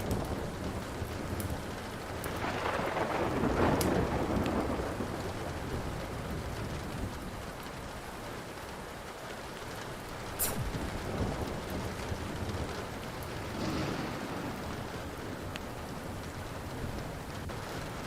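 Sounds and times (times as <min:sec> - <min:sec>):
thunder rolling: 0:00.0 - 0:07.4, 0:10.5 - 0:18.0
steady rain: 0:00.0 - 0:18.0
wood fire crackling: 0:00.0 - 0:18.0.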